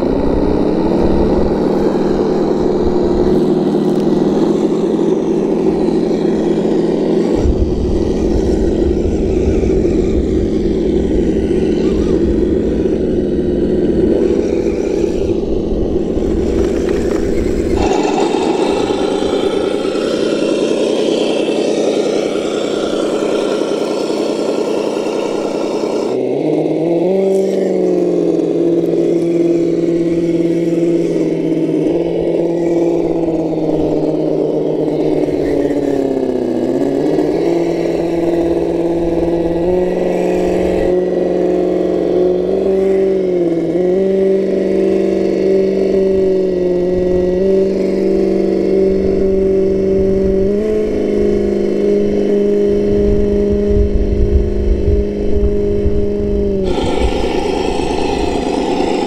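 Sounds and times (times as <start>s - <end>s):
simulated engine sound from speaker: 0.0s - 59.0s.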